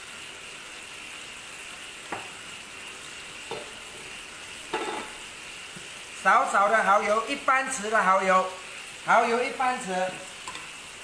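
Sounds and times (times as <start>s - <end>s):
duck sizzling in a wok: 0.0s - 11.0s.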